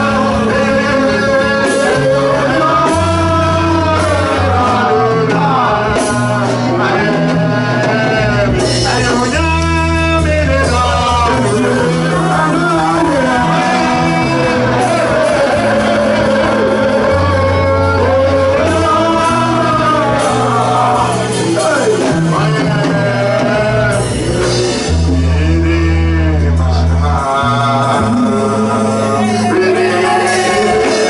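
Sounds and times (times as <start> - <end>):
drums: 0.0 - 31.0
held bass notes: 0.0 - 31.0
keyboard: 0.0 - 31.0
man singing into a microphone: 0.0 - 31.0.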